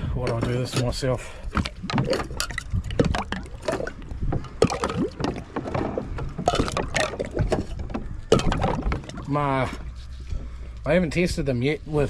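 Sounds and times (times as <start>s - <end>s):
water sloshing: 0.0s - 10.8s.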